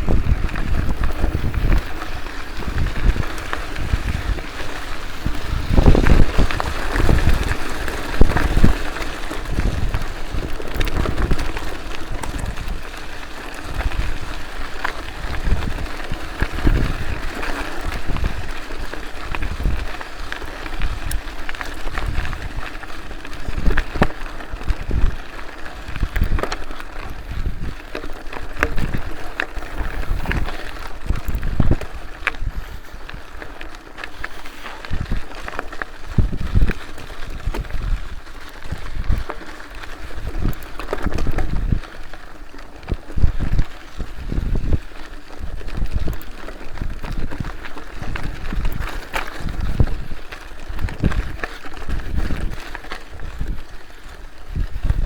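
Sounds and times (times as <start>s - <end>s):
steady rushing noise: 0.0s - 55.0s
wind buffeting microphone: 0.0s - 55.0s.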